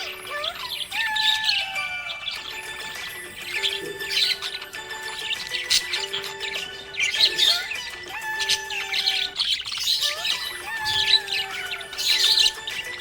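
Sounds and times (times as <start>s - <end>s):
music with long held tones: 0.0s - 13.0s
parrots chirping and squawking: 0.0s - 13.0s.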